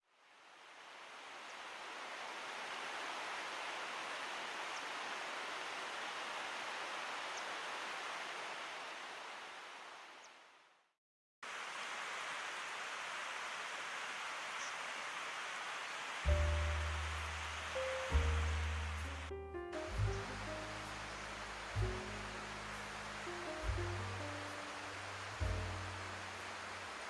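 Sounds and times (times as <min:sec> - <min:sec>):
rushing water: 0:00.2 - 0:10.2, 0:11.4 - 0:27.0.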